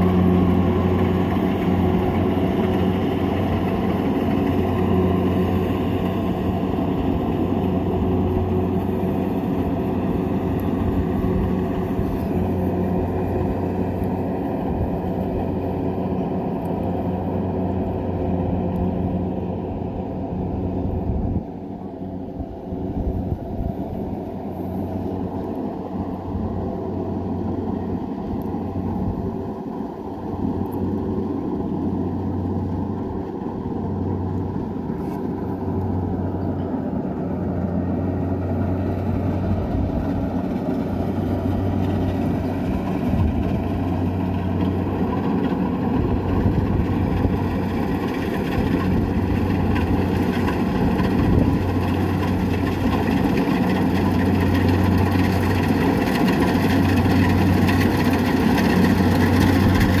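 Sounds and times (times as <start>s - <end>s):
combine harvester engine running: 0.0s - 60.0s.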